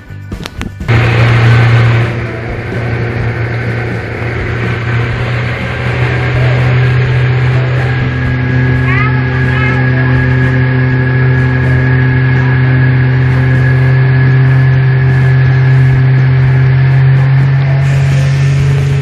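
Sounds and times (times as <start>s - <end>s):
motorboat engine droning: 0.9s - 19.0s.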